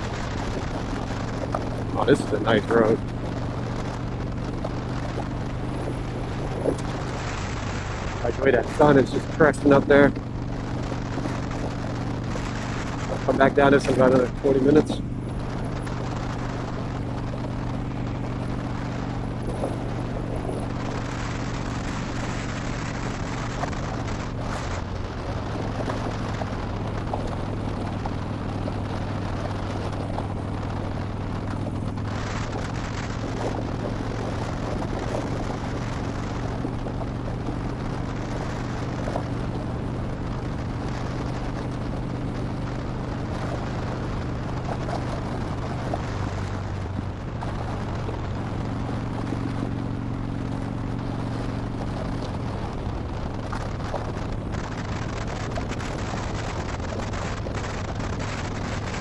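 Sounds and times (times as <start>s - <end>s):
motorcycle engine cruising: 0.0s - 59.0s
wind noise: 0.0s - 59.0s.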